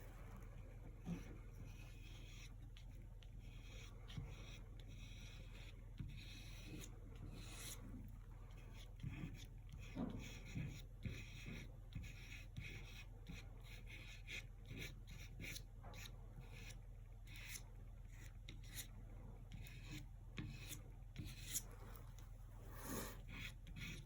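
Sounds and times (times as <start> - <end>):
paintbrush strokes and dabs: 0.0 - 24.0.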